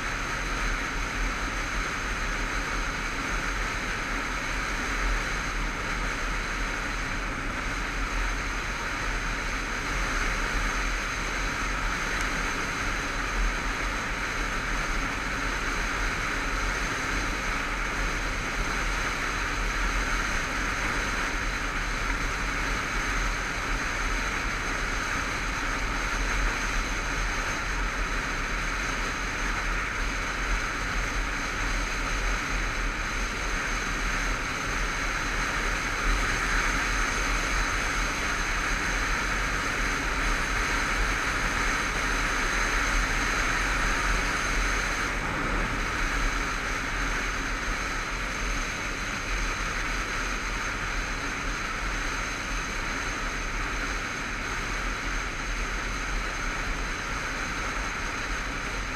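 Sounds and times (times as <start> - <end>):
motorcycle engine and tyre noise: 0.0 - 58.9
wind rush on microphone: 0.0 - 58.9.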